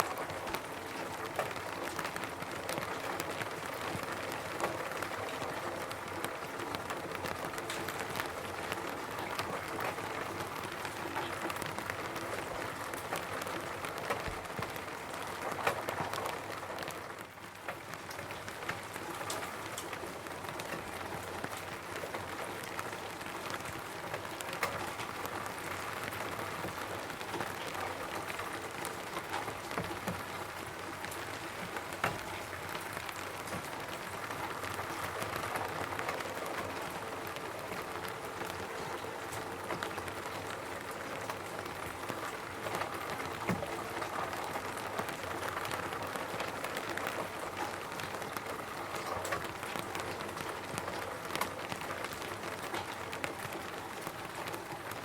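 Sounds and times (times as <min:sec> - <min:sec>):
rain pattering on a roof: 0:00.0 - 0:55.0.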